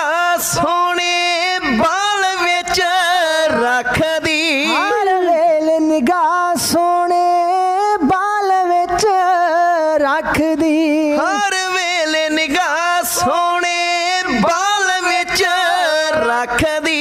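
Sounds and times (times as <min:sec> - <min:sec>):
men singing: 0:00.0 - 0:17.0.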